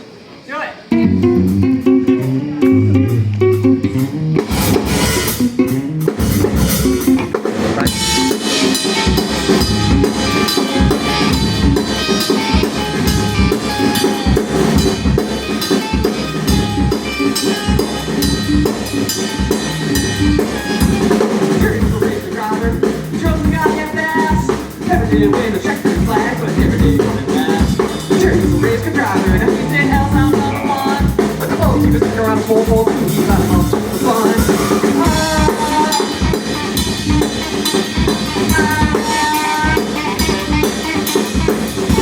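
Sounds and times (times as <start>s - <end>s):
drum kit beating busy rhythm: 0.9s - 42.0s
heavy bass: 0.9s - 42.0s
rock band playing: 0.9s - 42.0s.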